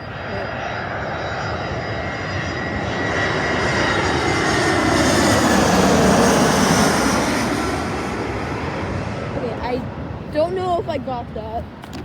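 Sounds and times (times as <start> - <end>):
jet airliner passing overhead: 0.0 - 12.0.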